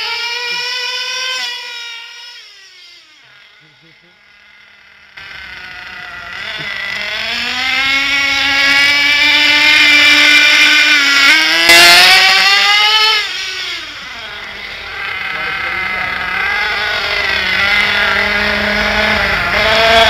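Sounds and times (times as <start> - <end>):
model engine high buzzing: 0.0 - 20.0.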